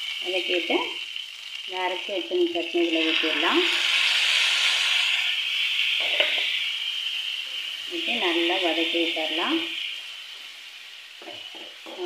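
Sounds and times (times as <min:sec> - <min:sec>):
sizzling in hot oil: 0:00.0 - 0:12.0.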